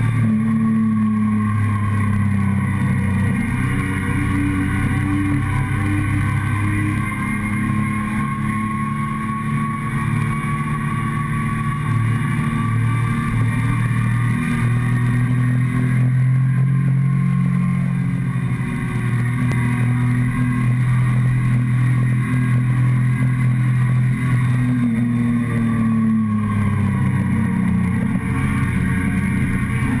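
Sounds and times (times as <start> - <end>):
motorcycle engine running: 0.0 - 30.0
road noise: 0.0 - 30.0.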